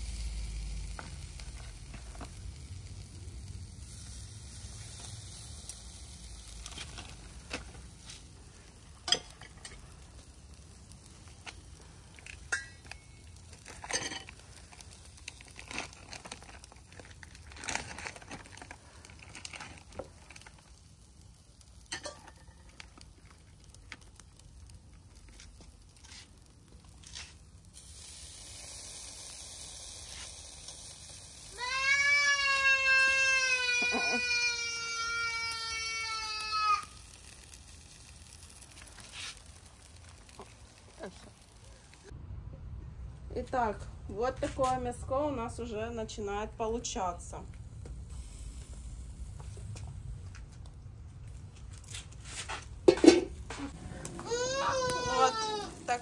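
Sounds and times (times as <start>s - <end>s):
meat sizzling on a grill: 0.0s - 42.2s, 47.0s - 50.5s, 51.3s - 56.0s
charcoal crackling: 0.0s - 56.0s.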